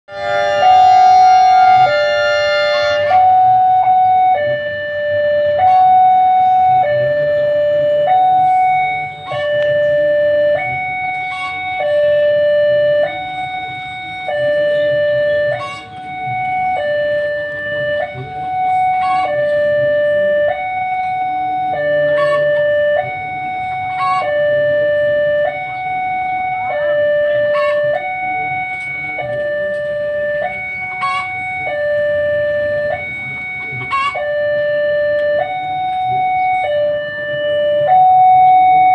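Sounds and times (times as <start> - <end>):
level crossing two-tone alarm: 0.1 - 38.9.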